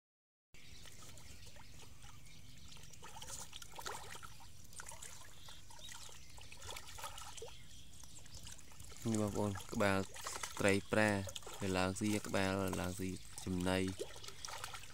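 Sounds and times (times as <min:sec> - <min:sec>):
fish splashing and gulping: 0:00.6 - 0:14.9.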